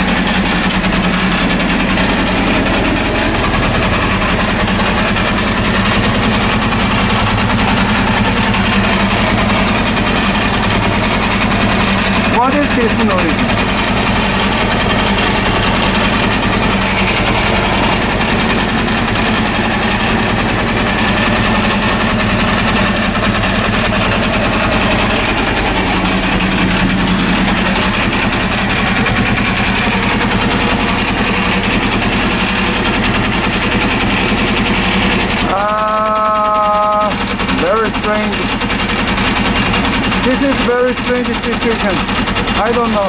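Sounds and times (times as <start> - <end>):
motorcycle engine idling: 0.0 - 43.0
strange mechanical noise: 0.0 - 43.0.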